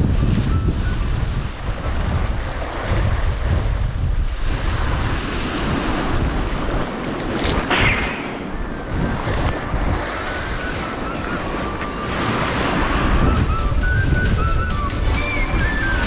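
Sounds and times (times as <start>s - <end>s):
waves washing against rocks: 0.0s - 16.0s
wind buffeting microphone: 0.0s - 16.0s.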